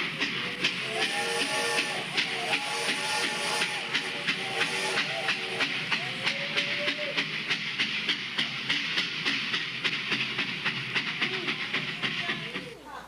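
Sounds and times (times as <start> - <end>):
steam train chugging: 0.0 - 13.0.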